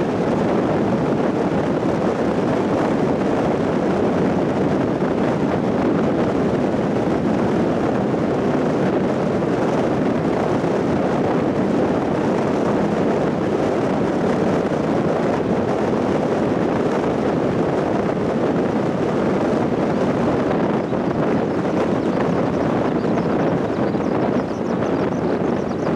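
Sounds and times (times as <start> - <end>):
car road and wind noise: 0.0 - 25.9.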